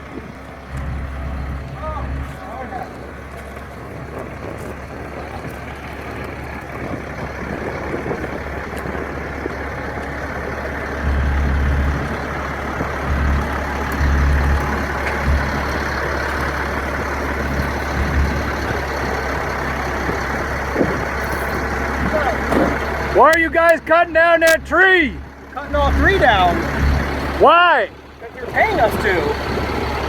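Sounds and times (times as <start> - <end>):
heavy engine rumbling: 0.0 - 30.0.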